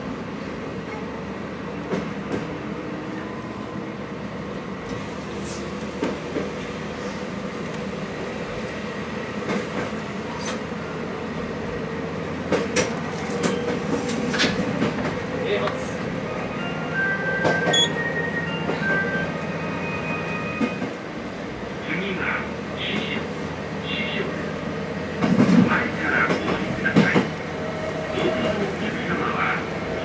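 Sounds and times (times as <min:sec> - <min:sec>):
railcar engine hum: 0:00.0 - 0:30.0.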